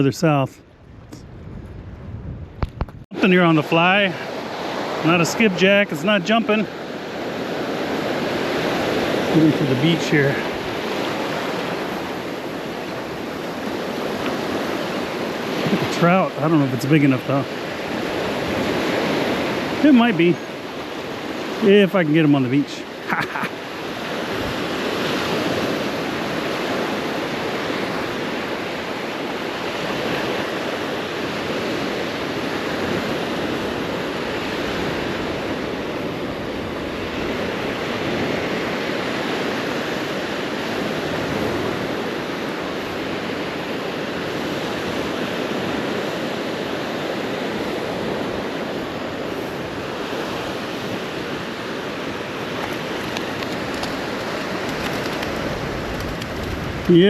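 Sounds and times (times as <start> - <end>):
surf breaking on beach: 3.1 - 57.0.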